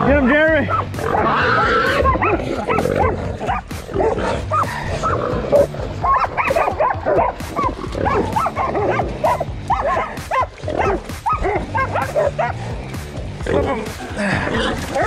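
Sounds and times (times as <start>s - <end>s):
dogs barking and yipping: 0.6s - 15.0s.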